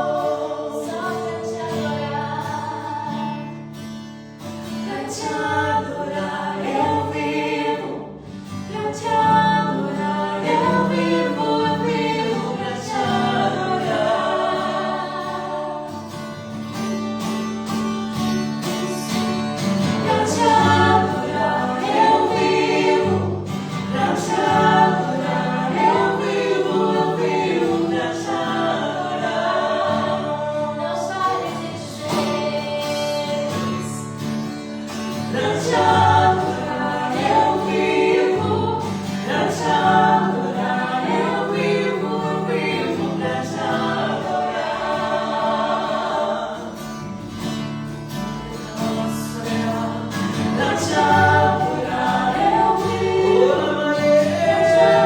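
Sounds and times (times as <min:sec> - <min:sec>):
group of voices singing: 0:00.0 - 0:03.6, 0:04.6 - 0:16.8, 0:18.9 - 0:55.0
guitar backing: 0:00.0 - 0:55.0.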